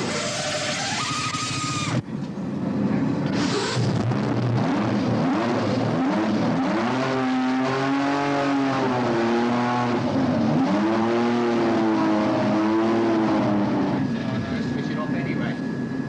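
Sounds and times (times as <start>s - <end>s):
racing engine revving: 0.0s - 2.0s, 3.2s - 14.2s.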